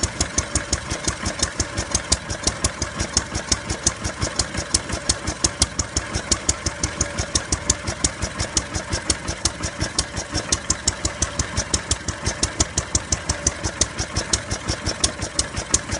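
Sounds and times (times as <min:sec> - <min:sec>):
stationary engine running: 0:00.0 - 0:15.9.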